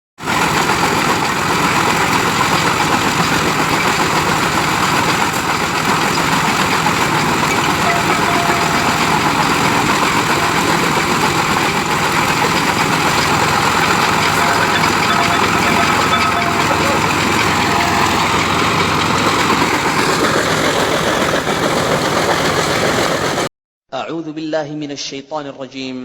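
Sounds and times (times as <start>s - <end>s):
engine running loudly: 0.2s - 23.5s.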